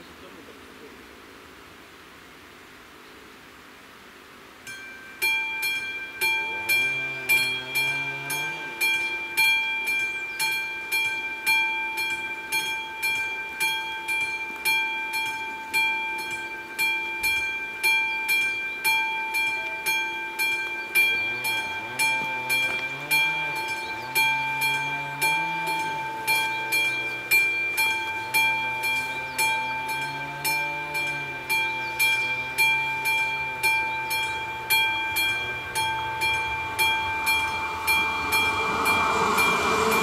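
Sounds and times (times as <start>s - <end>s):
level crossing warning bell: 4.6s - 40.0s.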